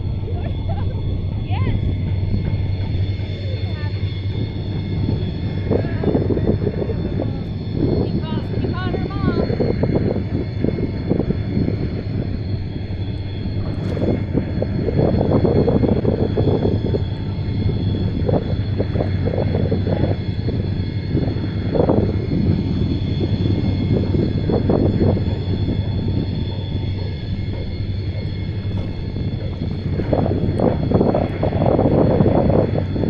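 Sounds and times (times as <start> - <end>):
outboard motor running: 0.0 - 33.0
wind gusting over microphone: 0.0 - 33.0.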